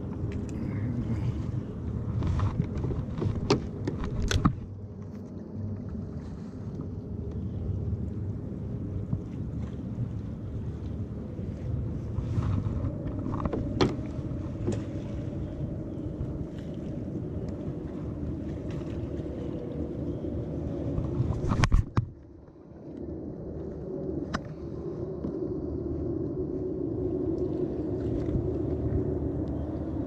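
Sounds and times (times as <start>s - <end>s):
water and wind wash: 0.0s - 30.0s.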